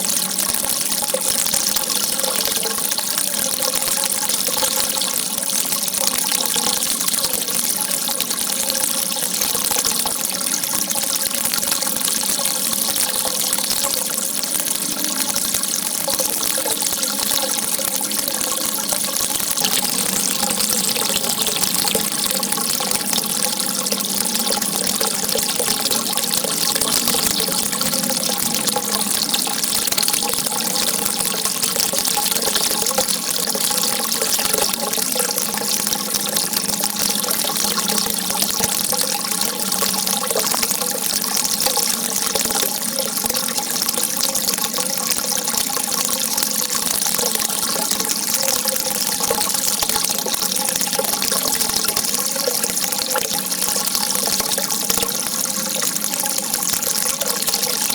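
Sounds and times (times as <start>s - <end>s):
water running and splashing: 0.0s - 57.9s.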